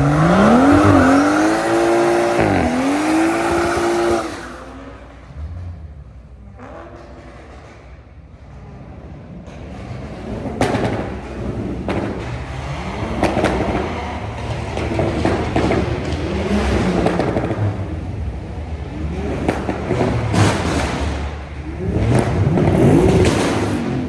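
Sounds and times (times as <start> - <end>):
car engine revving: 0.0 - 24.0
exhaust bangs: 0.0 - 24.0.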